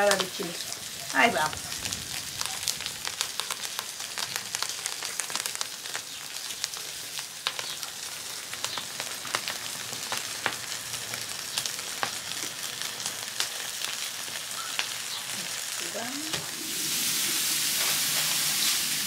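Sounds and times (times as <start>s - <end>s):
food sizzling on a hot griddle: 0.0s - 19.0s.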